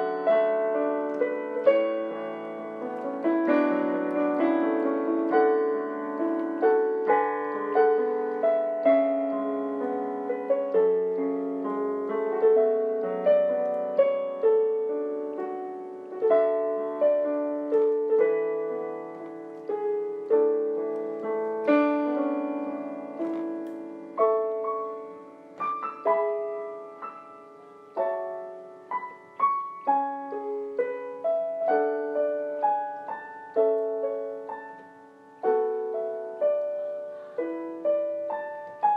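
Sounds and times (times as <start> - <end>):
gentle solo piano piece: 0.0 - 38.9.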